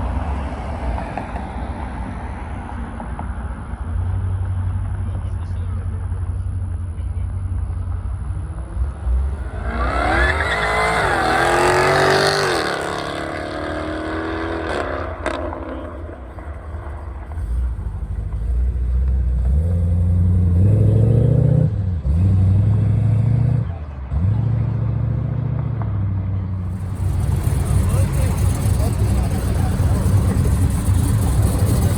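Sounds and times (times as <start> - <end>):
car engines revving: 2.8 - 31.9.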